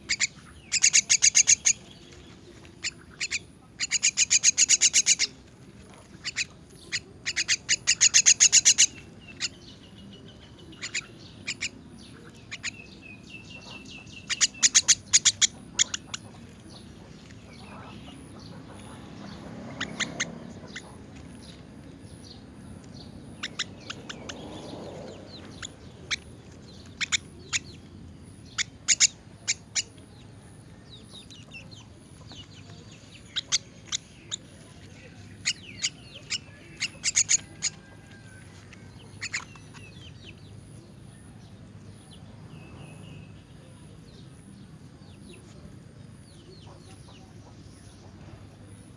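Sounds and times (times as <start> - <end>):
bird chicks rasping calls: 0.0 - 48.9.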